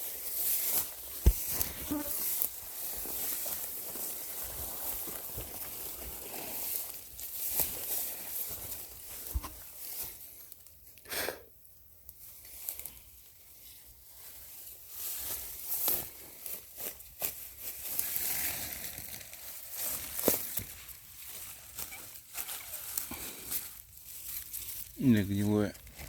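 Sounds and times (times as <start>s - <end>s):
undergrowth rustling and crackling: 0.0s - 10.7s, 12.1s - 26.0s.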